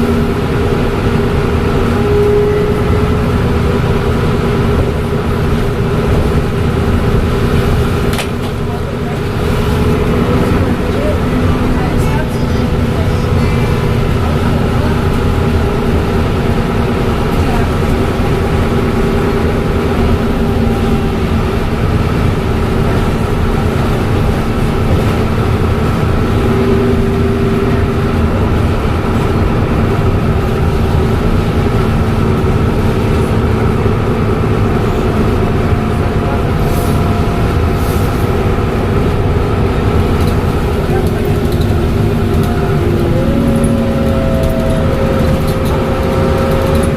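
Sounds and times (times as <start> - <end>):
bus engine drone: 0.0 - 46.9.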